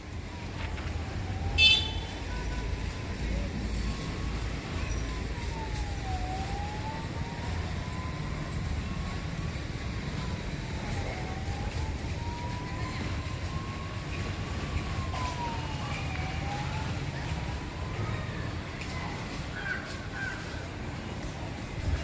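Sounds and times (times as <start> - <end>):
siren wailing: 0.2 - 18.7.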